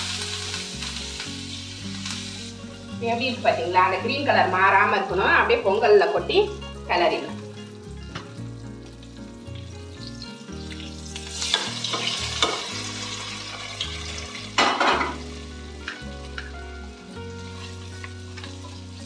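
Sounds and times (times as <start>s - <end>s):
hot ghee sizzling: 0.0s - 19.0s.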